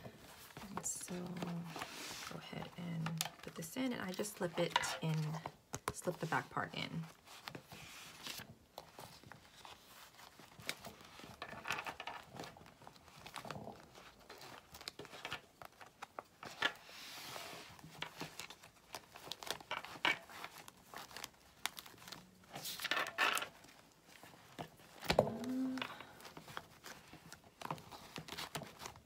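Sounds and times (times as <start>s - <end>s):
vinyl cover crinkling: 0.0s - 29.0s.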